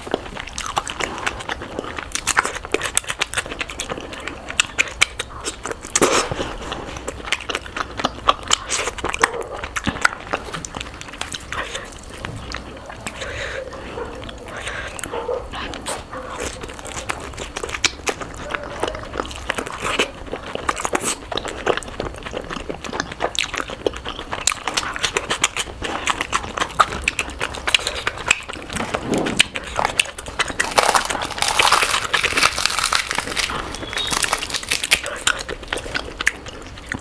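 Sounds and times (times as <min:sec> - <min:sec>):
crunchy bites and chewing: 0:00.0 - 0:37.0.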